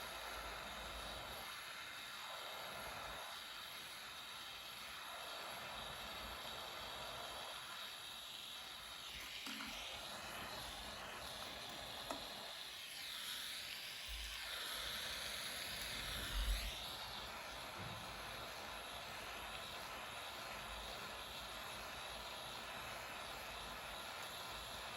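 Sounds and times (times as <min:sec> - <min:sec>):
torch flame hissing: 0:00.0 - 0:24.9.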